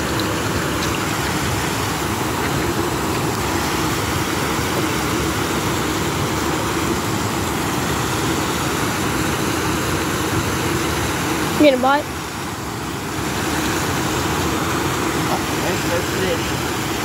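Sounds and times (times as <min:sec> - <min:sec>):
water pouring over a dam: 0:00.0 - 0:17.0.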